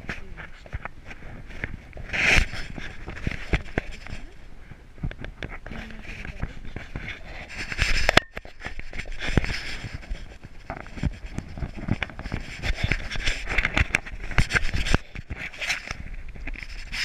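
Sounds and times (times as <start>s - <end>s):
hands rubbing and knocking: 0.0s - 4.4s, 5.0s - 17.0s
hair brushing across camera: 0.0s - 4.5s, 5.5s - 17.0s.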